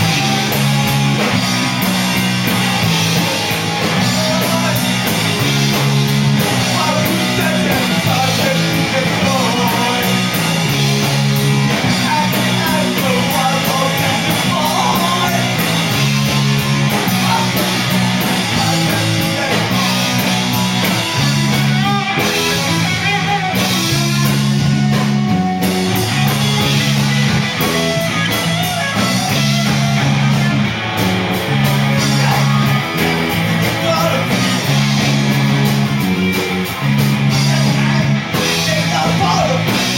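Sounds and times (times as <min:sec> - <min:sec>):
bass line: 0:00.0 - 0:39.9
electric guitar: 0:00.0 - 0:39.9.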